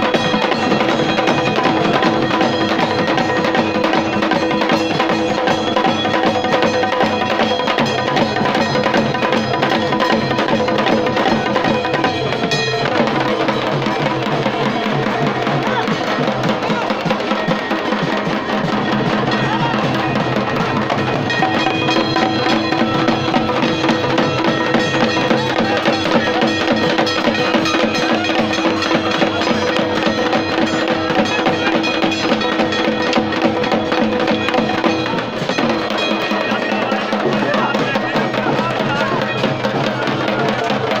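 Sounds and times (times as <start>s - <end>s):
folk drums beaten with sticks: 0.0s - 41.0s.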